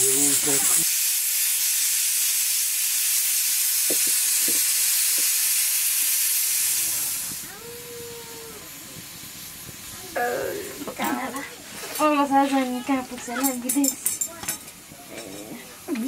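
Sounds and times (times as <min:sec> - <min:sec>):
pressure cooker steam hissing: 0:00.0 - 0:16.0.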